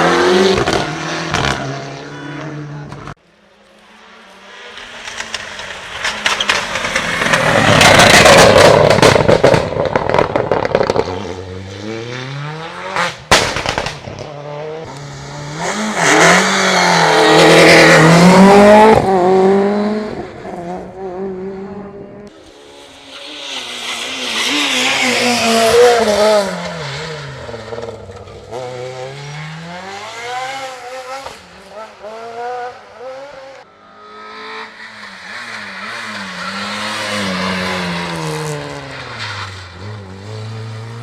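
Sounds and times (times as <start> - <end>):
rally car passing by: 3.8 - 13.3, 14.2 - 41.0.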